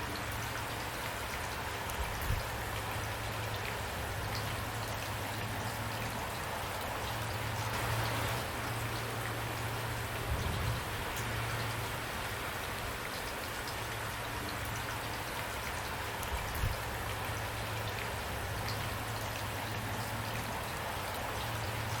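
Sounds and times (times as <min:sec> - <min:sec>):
raindrops ticking: 0:00.0 - 0:22.0
steady rain: 0:00.0 - 0:22.0.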